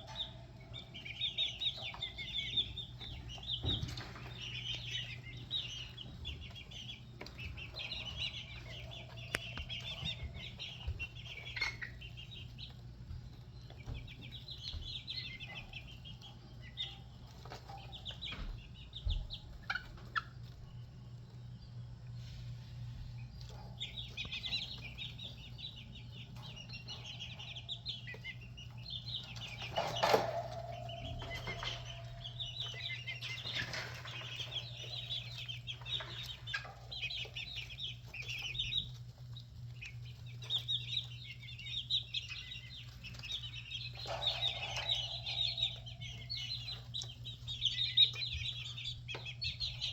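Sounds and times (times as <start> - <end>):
chicks peeping: 0.0 - 49.9
steady low hum: 0.0 - 49.9.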